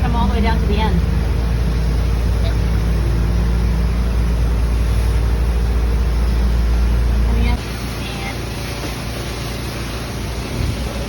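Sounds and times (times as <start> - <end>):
motor rumbling: 0.0 - 11.0.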